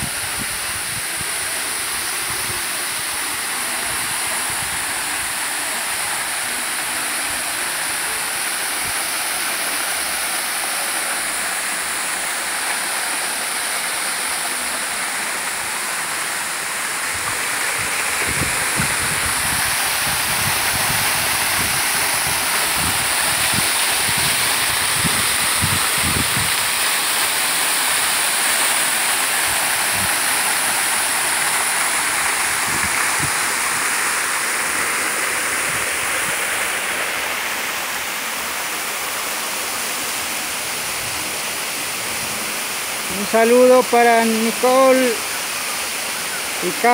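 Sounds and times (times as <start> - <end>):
waterfall pouring into pool: 0.0 - 46.9.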